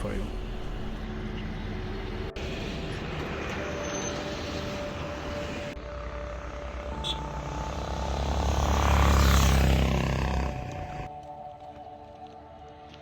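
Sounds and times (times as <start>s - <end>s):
car engine and tyre noise: 0.0s - 11.7s.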